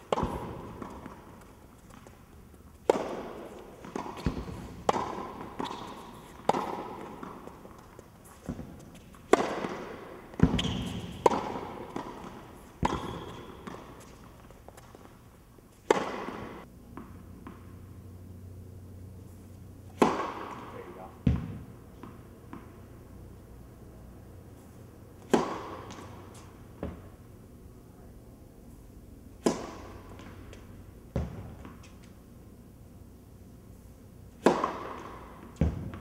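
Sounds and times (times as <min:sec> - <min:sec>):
tennis balls struck and bouncing: 0:00.0 - 0:17.9, 0:19.6 - 0:23.0, 0:24.7 - 0:27.4, 0:29.3 - 0:32.4, 0:33.6 - 0:36.0.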